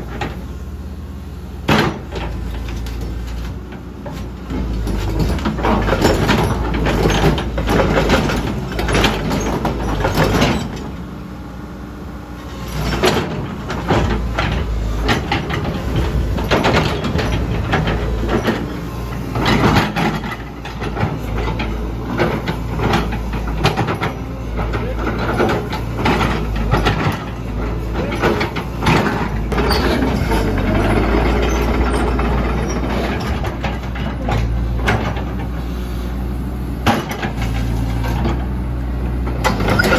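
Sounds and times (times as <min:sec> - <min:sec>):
excavator diesel engine rumbling: 0:00.0 - 0:39.9
machine clanks and rattles: 0:01.6 - 0:11.1, 0:12.5 - 0:35.6, 0:36.8 - 0:39.9.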